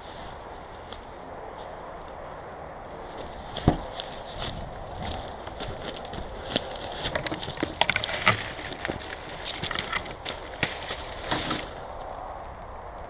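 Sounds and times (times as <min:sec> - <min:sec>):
twigs snapping and scraping: 0:00.0 - 0:02.2, 0:03.0 - 0:13.0.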